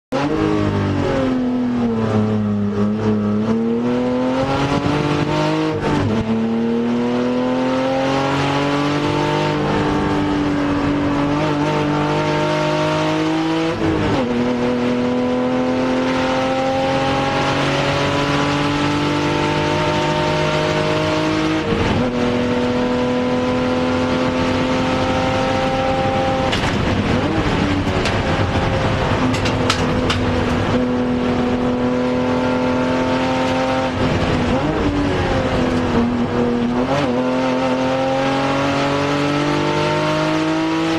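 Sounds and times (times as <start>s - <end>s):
race car engine accelerating: 0.1s - 40.9s.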